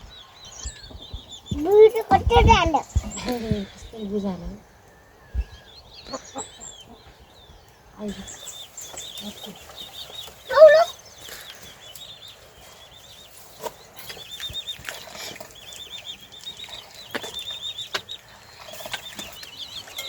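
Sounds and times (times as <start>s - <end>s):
chickens chirping: 0.0s - 20.0s.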